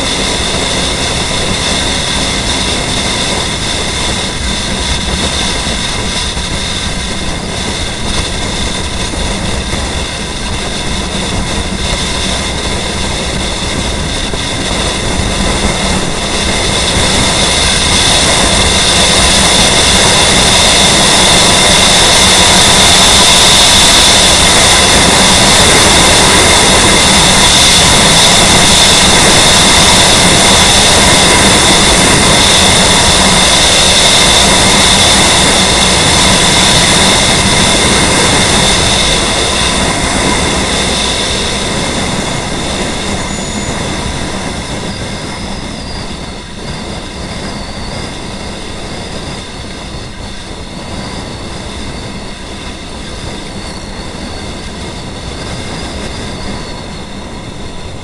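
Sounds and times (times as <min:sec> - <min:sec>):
motorcycle road noise: 0:00.0 - 0:58.0
wind roar: 0:00.0 - 0:58.0.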